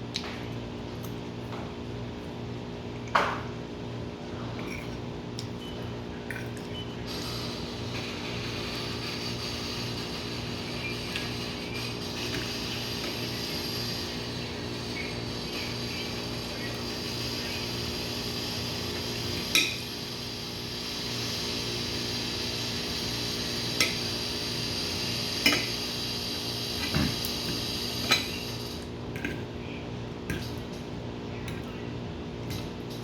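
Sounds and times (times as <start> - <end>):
background hum and hiss: 0.0 - 33.0.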